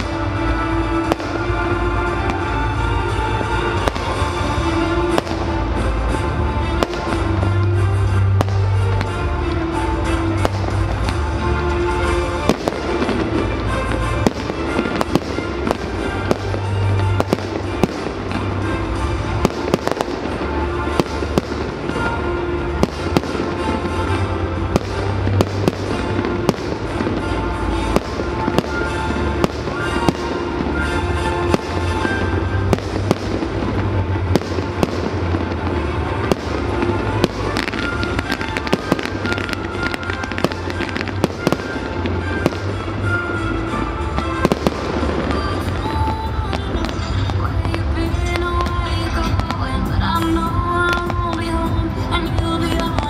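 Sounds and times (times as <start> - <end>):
fireworks bangs and crackles: 0.0 - 53.0
music with steady bass line: 0.0 - 53.0.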